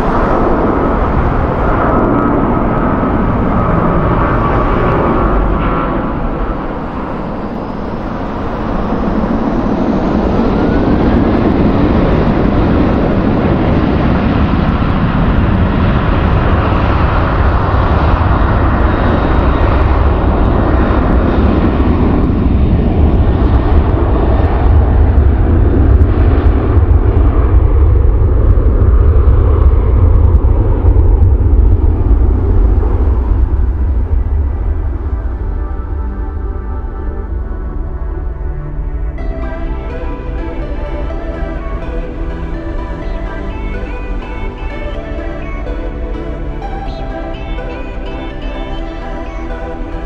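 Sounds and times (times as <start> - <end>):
jet airliner engines running: 0.0 - 50.0.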